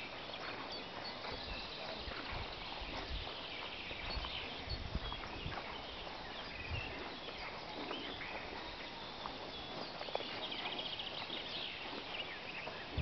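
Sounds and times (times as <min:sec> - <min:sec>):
small birds chirping and singing: 0:00.0 - 0:13.0
steady outdoor hiss: 0:00.0 - 0:13.0.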